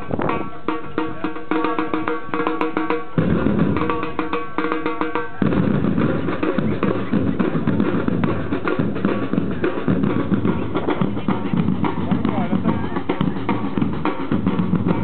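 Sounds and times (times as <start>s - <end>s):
samba drum band playing: 0.0s - 15.0s.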